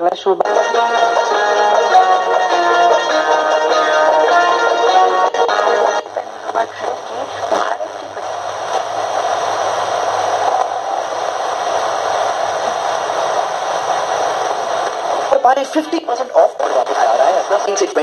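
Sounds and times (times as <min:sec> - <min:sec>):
radio music: 0:00.0 - 0:18.0
radio static hiss: 0:00.2 - 0:18.0
radio tuning warble: 0:00.4 - 0:18.0.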